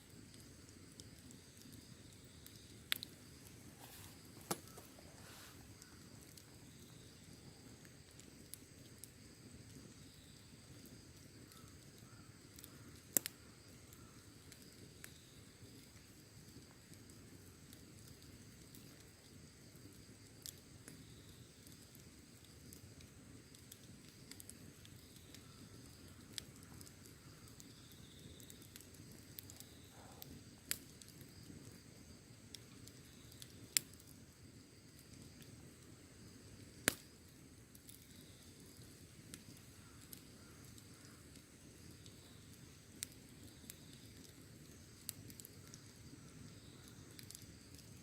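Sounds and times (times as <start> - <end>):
fire crackling and popping: 0.0 - 48.0
fire rumbling: 0.0 - 48.0.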